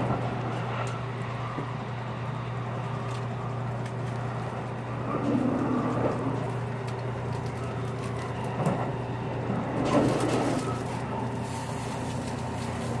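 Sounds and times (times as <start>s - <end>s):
wheels rumbling on track: 0.0s - 13.0s.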